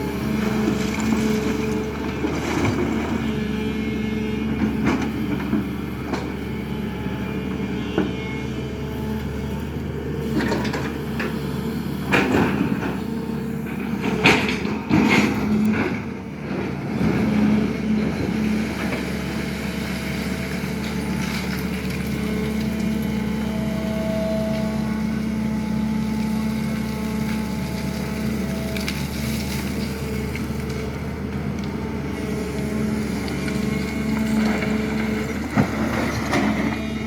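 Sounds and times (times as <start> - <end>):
excavator diesel engine running: 0.0 - 37.0
hydraulics working: 0.0 - 37.0.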